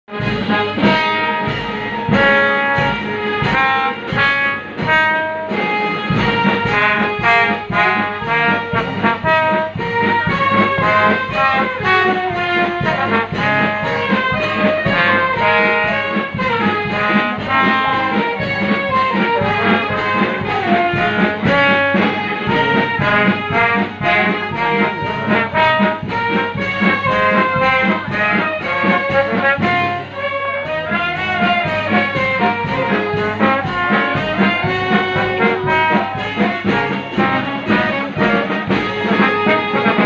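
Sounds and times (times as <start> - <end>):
brass band playing: 0.0 - 40.0
steady drum beat: 0.0 - 40.0.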